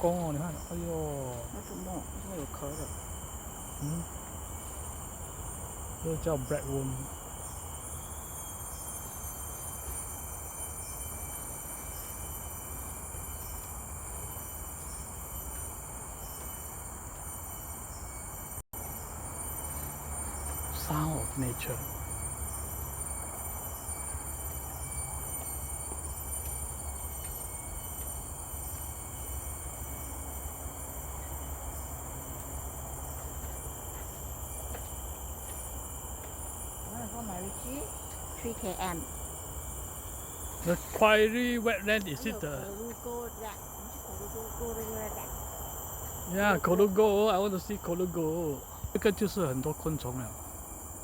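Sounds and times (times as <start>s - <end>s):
insects calling: 0.0s - 51.0s.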